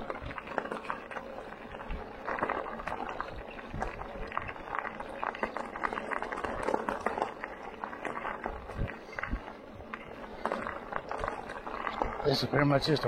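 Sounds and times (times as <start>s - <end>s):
bike tyres crunching on gravel: 0.0s - 13.0s.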